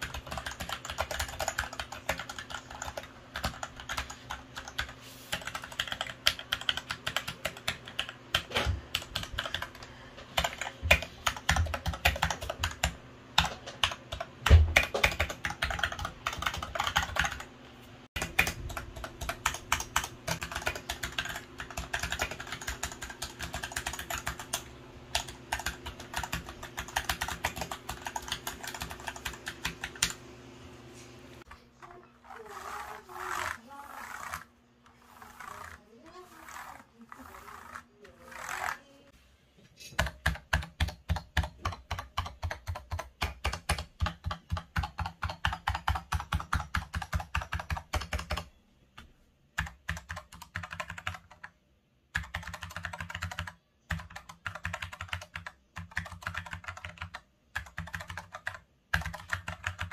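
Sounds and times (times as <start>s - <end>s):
fast mechanical keyboard typing: 0.0s - 17.5s, 18.1s - 30.2s, 32.8s - 38.8s, 40.0s - 48.5s, 49.6s - 59.9s.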